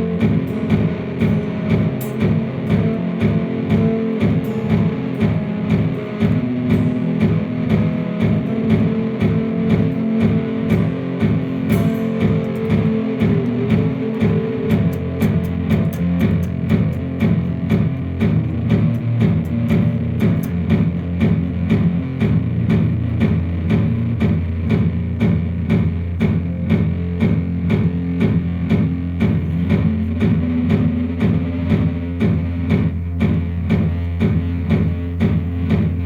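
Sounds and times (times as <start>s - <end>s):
overdriven electric guitar riff: 0.0s - 36.0s.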